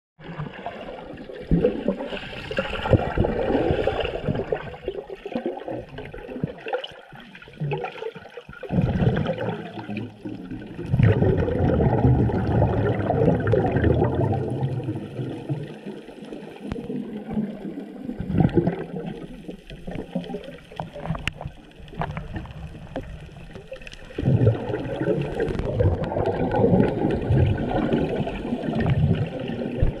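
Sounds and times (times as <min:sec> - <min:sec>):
underwater gurgling and bubbling: 0:00.2 - 0:30.0.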